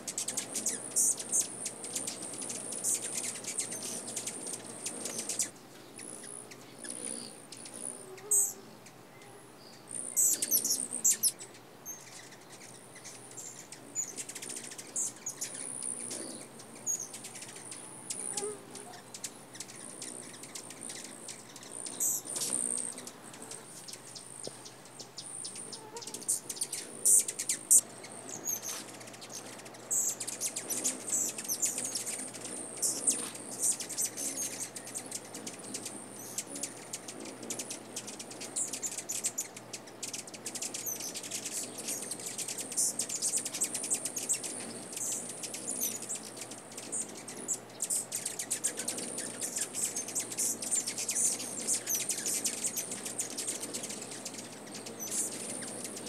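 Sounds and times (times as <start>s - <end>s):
hummingbird chip notes: 0.0s - 56.0s.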